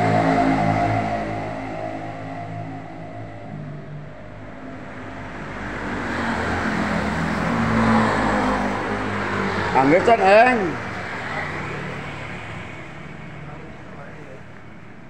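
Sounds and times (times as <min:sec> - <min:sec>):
vehicle passing close by: 0:00.0 - 0:14.4
road traffic: 0:00.0 - 0:15.0.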